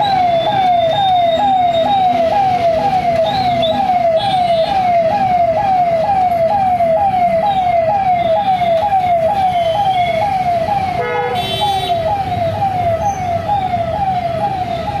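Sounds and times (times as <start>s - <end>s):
electronic siren: 0.0s - 15.0s.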